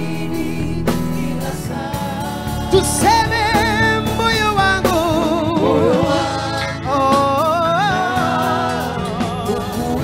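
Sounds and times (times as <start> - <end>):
gospel band playing: 0.0 - 10.0.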